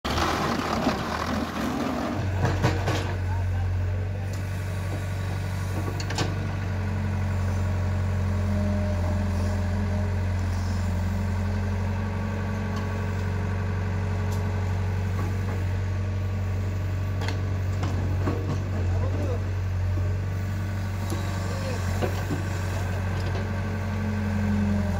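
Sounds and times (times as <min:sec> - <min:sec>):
backhoe loader digging: 0:00.0 - 0:24.9
tractor engine idling: 0:00.0 - 0:24.9.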